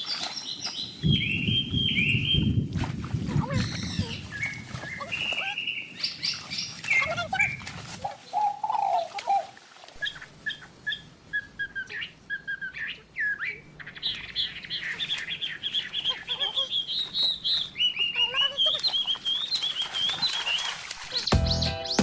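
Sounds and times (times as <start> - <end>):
bird chirping: 0.0 - 2.6, 3.5 - 7.6, 10.0 - 22.0.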